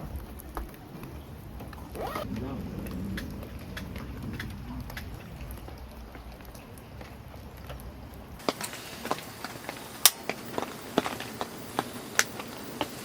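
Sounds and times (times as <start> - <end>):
rain dripping: 0.0 - 13.0.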